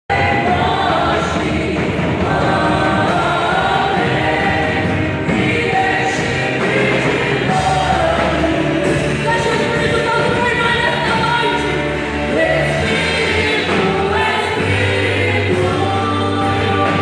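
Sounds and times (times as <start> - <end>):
choir singing gospel: 0.1 - 17.0
instrumental backing: 0.1 - 17.0.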